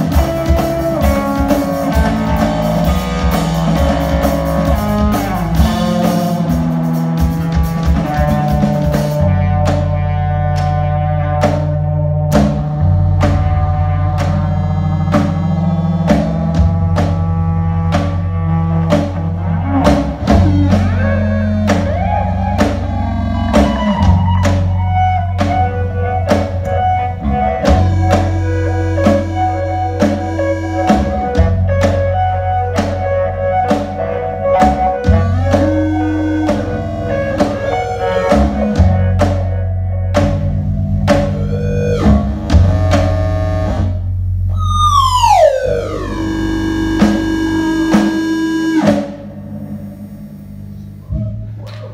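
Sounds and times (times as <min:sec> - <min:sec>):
drum kit steady beat: 0:00.0 - 0:44.5, 0:45.3 - 0:51.9
electric guitar picking lines: 0:00.0 - 0:51.7
electric bass low notes: 0:00.0 - 0:51.9.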